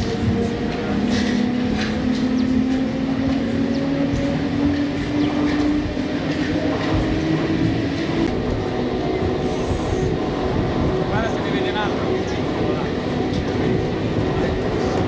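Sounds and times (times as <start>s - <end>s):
cable car mechanical rumble: 0.0s - 15.0s.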